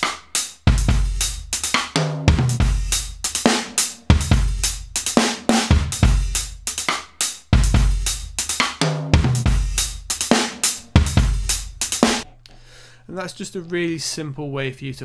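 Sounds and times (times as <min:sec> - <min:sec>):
acoustic drum kit groove: 0:00.0 - 0:12.3.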